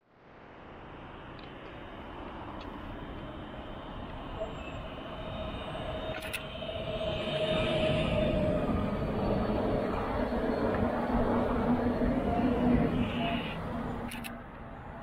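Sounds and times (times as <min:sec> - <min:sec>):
tram running noise: 0:00.8 - 0:15.0.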